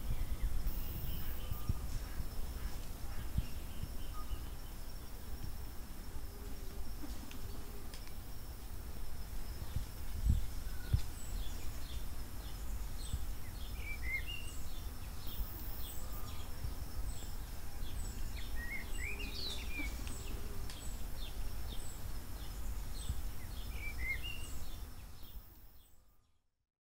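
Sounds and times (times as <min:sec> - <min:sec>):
lower bird chirps: 0:00.0 - 0:05.2, 0:09.6 - 0:26.2
faint insect drone: 0:00.0 - 0:26.6.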